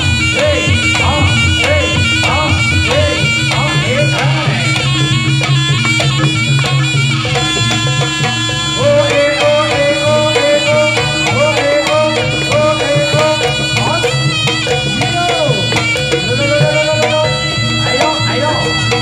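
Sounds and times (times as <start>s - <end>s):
reedy wind instrument melody: 0.0s - 19.0s
steady percussion beat: 0.0s - 19.0s.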